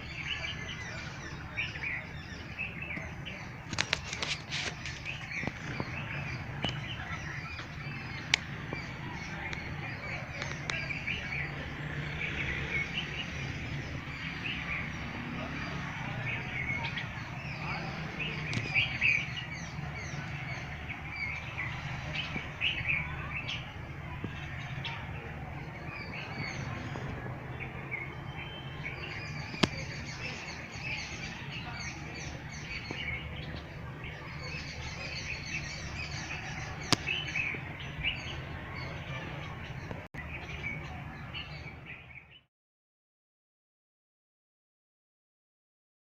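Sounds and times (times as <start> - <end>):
small birds chirping: 0.0 - 42.5.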